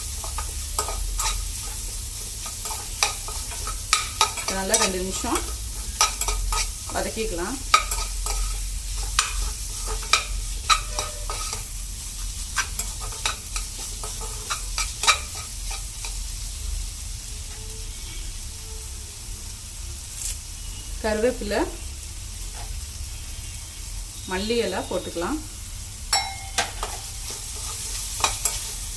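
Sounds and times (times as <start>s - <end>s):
vegetables sizzling in oil: 0.0s - 28.9s.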